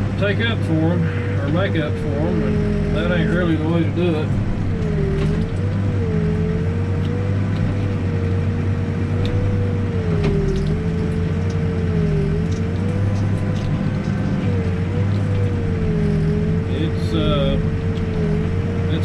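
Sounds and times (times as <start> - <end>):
diesel engine running under load: 0.0 - 19.0
engine whine: 0.0 - 19.0.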